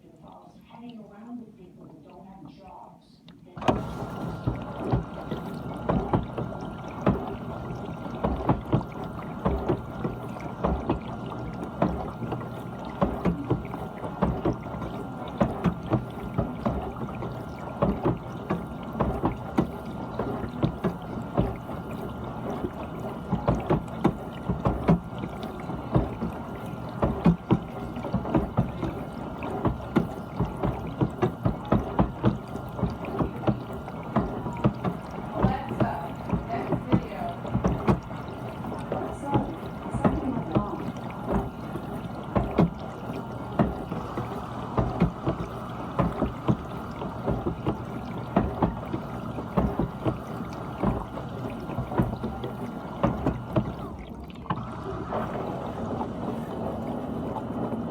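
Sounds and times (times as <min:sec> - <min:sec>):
dishwasher low hum: 0:00.0 - 0:57.9
water splashing in dishwasher: 0:03.4 - 0:57.9.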